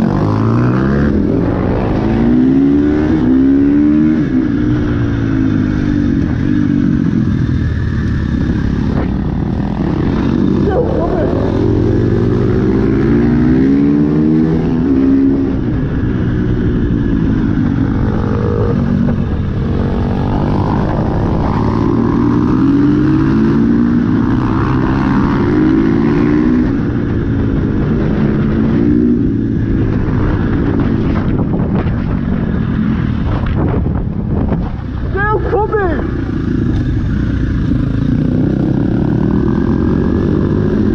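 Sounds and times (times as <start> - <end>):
dirt bike engines revving: 0.0 - 33.6, 34.6 - 40.9.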